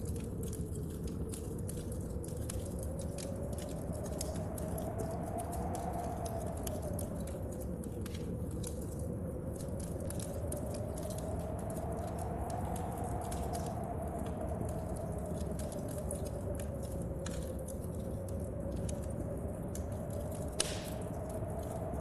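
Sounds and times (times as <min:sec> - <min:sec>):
wind howling: 0:00.0 - 0:22.0
wood fire crackling: 0:00.0 - 0:22.0.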